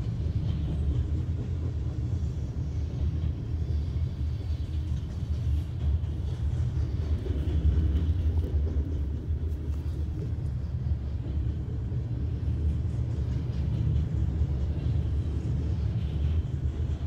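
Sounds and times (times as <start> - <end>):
train cars rolling past: 0.0 - 17.0.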